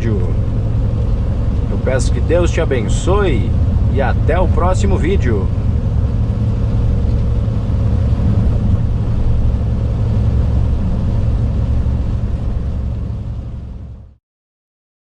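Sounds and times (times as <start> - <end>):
road rumble: 0.0 - 14.2
truck engine rumble: 0.0 - 14.2.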